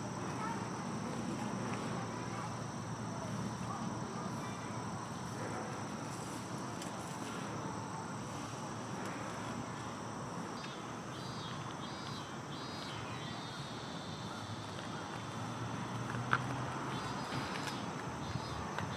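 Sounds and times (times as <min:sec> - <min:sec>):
high insect drone: 0:00.0 - 0:18.9.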